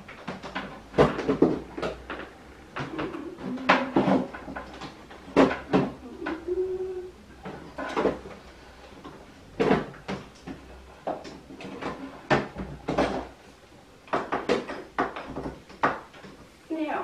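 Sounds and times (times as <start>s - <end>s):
knocks and clunks on metal rack: 0.0s - 6.5s, 7.4s - 13.4s, 14.1s - 16.4s.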